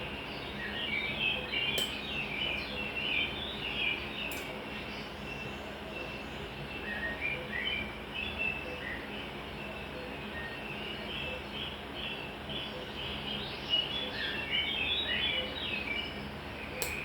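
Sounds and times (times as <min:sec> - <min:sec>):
small birds chirping and twittering: 0:00.0 - 0:17.0
steady low hum: 0:00.0 - 0:17.0.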